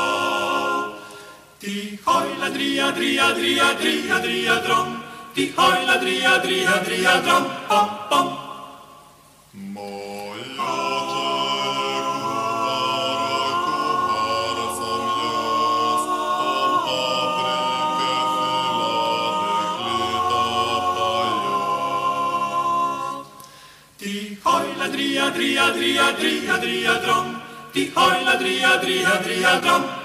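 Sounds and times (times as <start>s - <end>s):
a cappella group singing chords: 0.0s - 30.0s.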